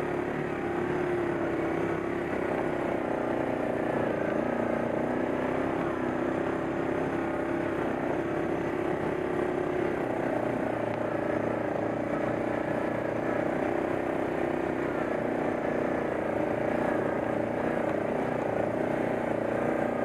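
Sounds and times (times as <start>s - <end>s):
atv engine running steadily: 0.0s - 20.0s.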